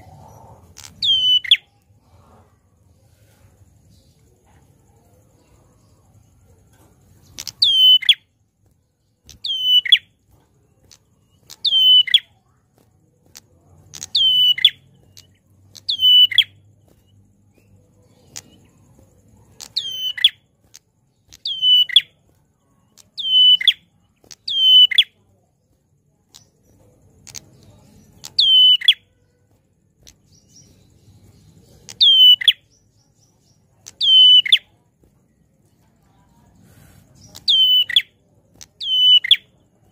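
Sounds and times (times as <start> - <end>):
bird singing sharp calls: 0.0 - 2.4, 3.2 - 39.9.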